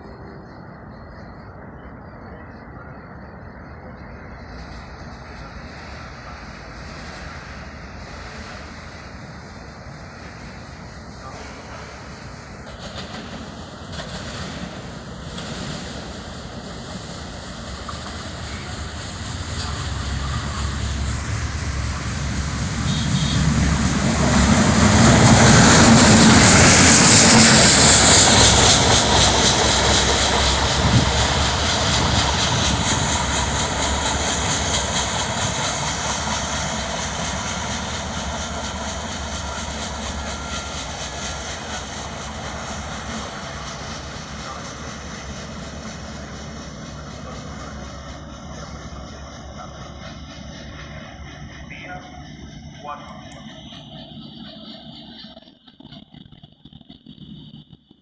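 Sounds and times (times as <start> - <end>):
rail vehicle engine passing by: 0.0 - 57.7.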